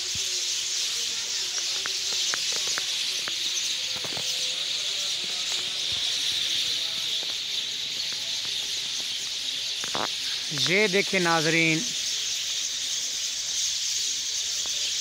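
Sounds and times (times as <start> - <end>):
flock of mynas chattering: 0.0 - 15.0.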